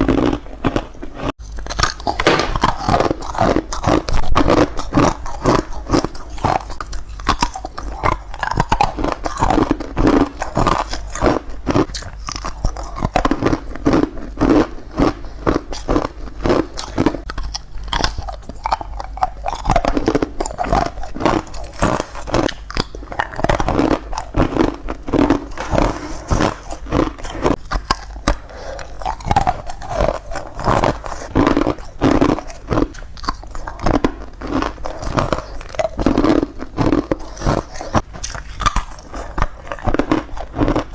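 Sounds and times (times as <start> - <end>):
ice crunching between teeth: 0.0 - 40.9.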